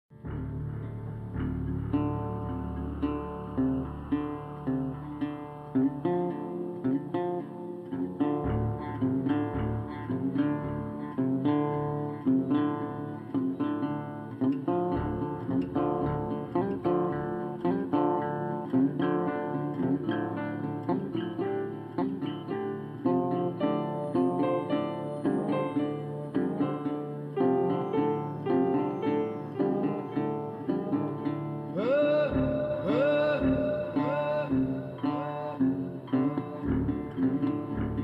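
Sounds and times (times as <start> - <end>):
acoustic guitar picking: 0.1 - 38.0.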